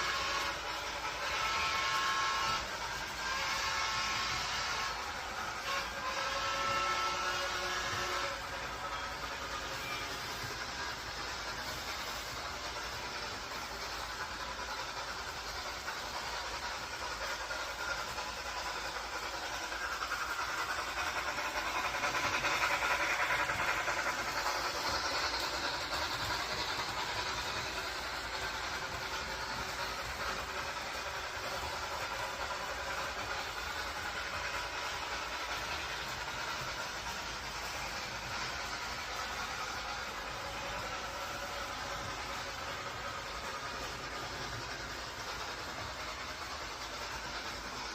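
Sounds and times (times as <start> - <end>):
train rolling along track: 0.0 - 47.9.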